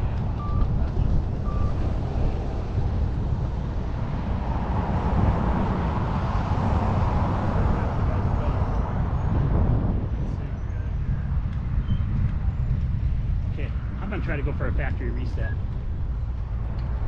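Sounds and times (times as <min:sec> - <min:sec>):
wind rumble: 0:00.0 - 0:17.0.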